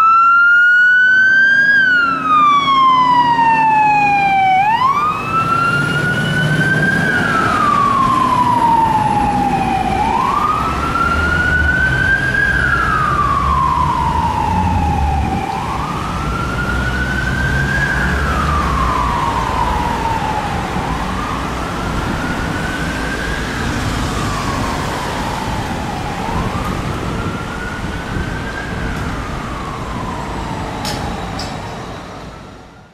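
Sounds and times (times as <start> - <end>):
fire truck siren wailing: 0.0 - 32.9
truck engine rumble: 0.0 - 32.9.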